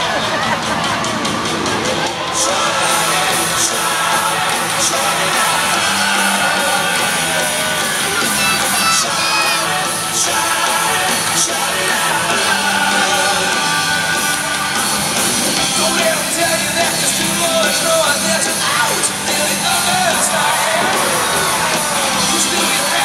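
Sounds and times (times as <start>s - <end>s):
loud music with singing: 0.0s - 23.0s.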